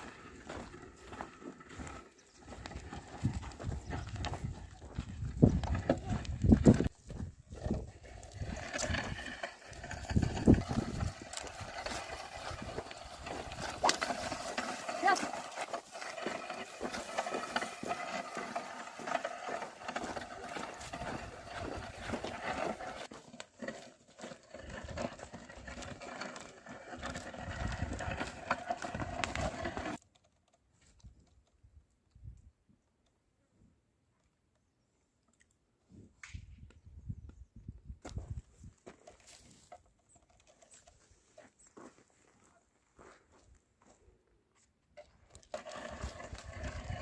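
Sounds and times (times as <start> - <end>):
steady outdoor noise: 0.0 - 42.4.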